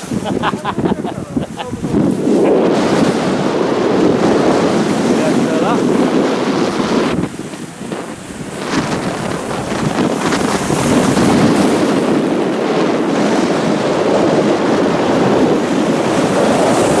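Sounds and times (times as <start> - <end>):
sea waves breaking: 0.0 - 17.0
wind on microphone: 0.0 - 17.0.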